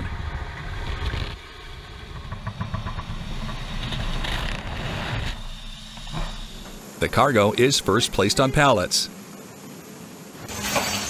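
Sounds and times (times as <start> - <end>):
plane engine noise: 0.0 - 11.0.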